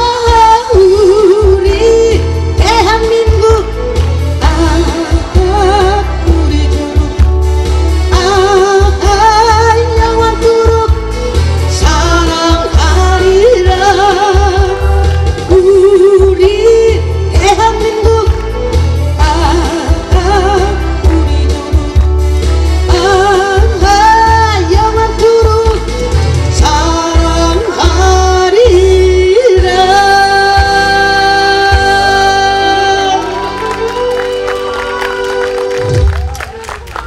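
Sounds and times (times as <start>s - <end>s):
backing track with bass beat: 0.0s - 37.0s
woman singing with vibrato: 0.0s - 37.0s.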